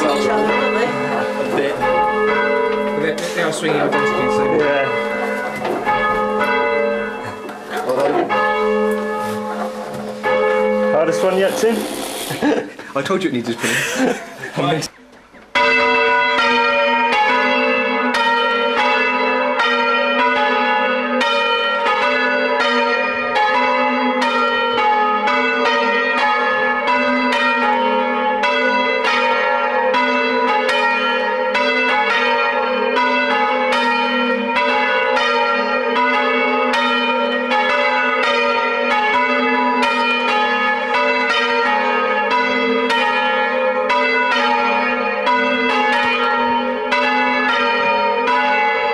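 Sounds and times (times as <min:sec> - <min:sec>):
church bells ringing: 0:00.0 - 0:14.9, 0:15.5 - 0:48.9.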